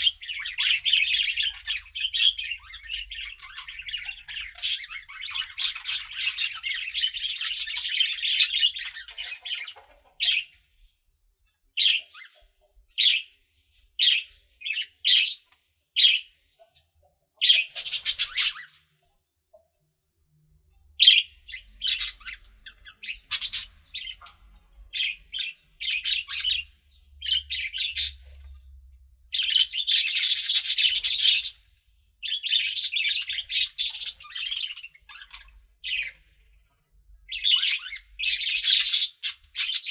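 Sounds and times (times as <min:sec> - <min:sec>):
budgerigars chirping and chattering: 0:00.0 - 0:19.5, 0:20.4 - 0:39.9.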